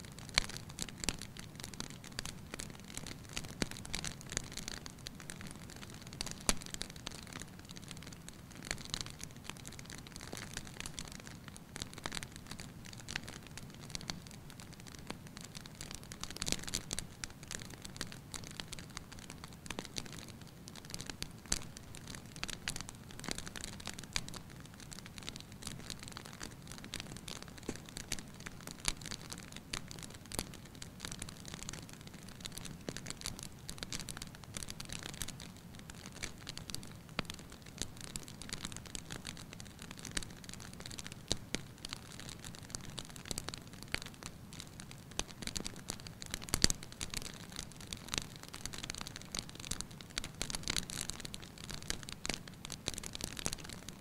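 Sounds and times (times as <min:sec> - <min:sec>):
logs crackling and snapping: 0:00.2 - 0:54.0.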